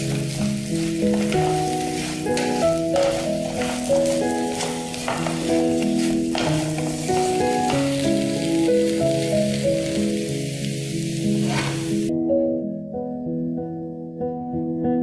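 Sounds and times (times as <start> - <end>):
potatoes frying in hot oil: 0.0 - 12.1
gentle background music: 0.0 - 15.0.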